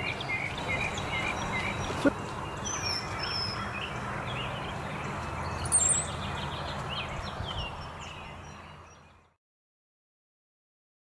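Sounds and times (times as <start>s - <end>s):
songbirds chirping and whistling: 0.0s - 9.4s.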